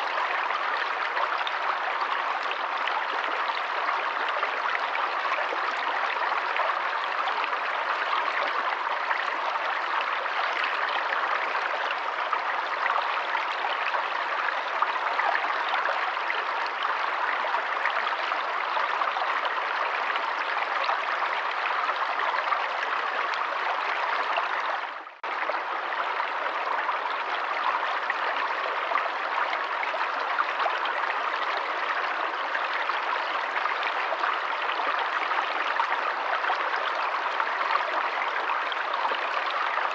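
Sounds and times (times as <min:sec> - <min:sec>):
forest stream rushing and babbling: 0:00.0 - 0:39.9.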